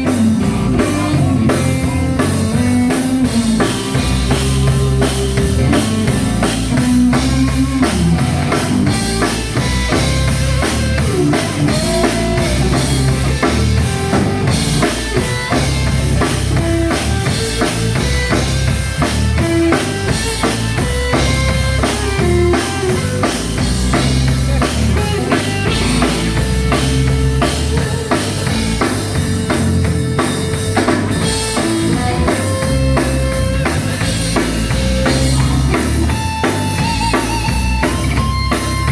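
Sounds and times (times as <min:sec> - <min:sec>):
drum kit beat: 0:00.0 - 0:38.9
gospel band playing: 0:00.0 - 0:38.9.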